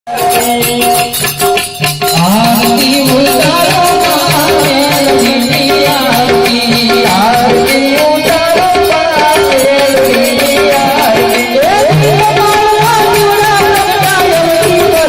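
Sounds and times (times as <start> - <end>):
rattling percussion: 0.1 - 15.0
tabla: 0.1 - 15.0.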